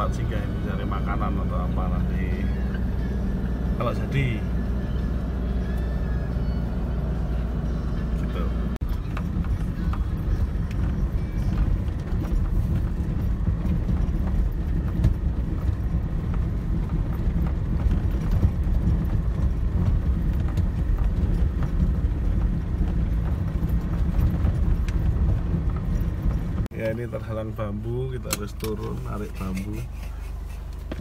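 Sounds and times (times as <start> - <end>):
truck engine and tyres rumbling: 0.0 - 31.0.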